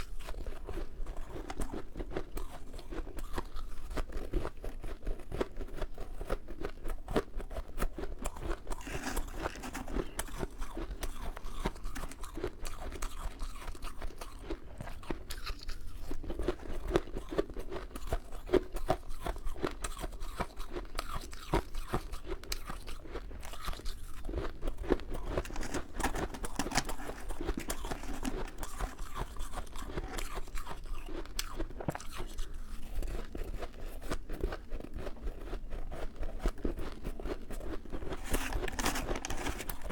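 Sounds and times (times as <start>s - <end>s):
chewing crunchy frost ice: 0.0s - 39.9s.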